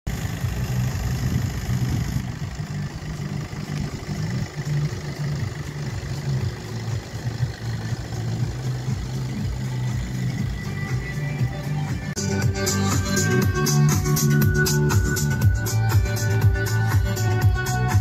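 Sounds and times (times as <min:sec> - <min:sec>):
diesel car engine idling: 0:00.1 - 0:18.0.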